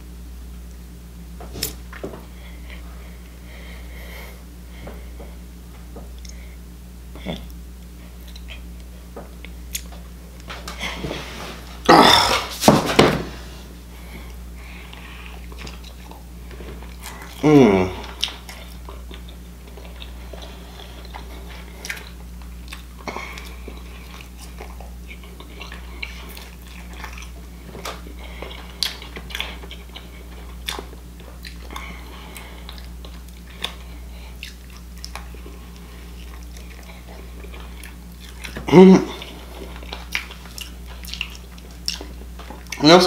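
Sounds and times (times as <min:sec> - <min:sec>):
person chewing a burger: 0:06.1 - 0:12.6, 0:13.8 - 0:42.8.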